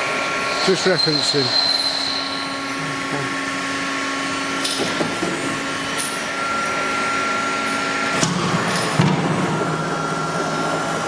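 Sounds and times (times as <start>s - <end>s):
machine whirring and humming: 0.0s - 11.0s.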